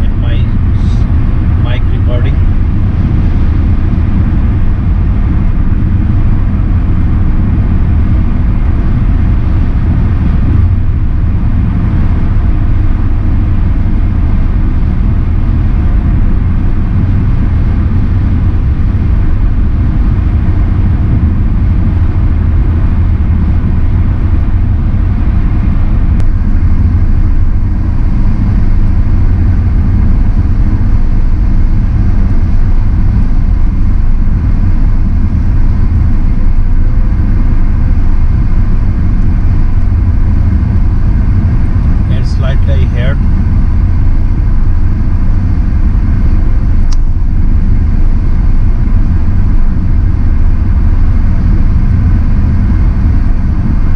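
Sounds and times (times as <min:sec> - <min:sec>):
wind and road noise rumble: 0:00.0 - 0:53.9.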